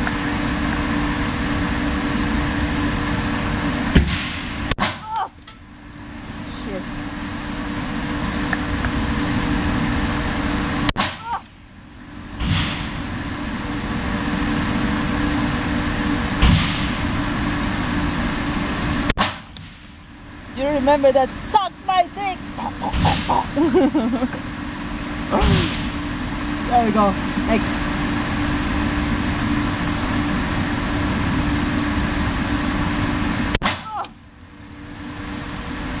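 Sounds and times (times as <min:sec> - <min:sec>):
background rumble and hiss: 0:00.0 - 0:36.0
ventilation hum: 0:00.0 - 0:36.0.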